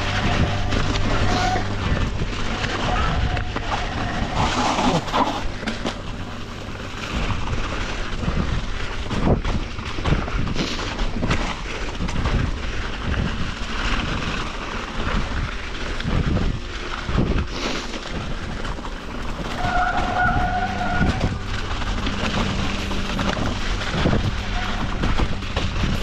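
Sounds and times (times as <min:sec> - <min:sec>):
bike rattling: 0:00.0 - 0:26.0
tyres on loose dirt: 0:00.0 - 0:26.0
wind buffeting microphone: 0:00.0 - 0:26.0.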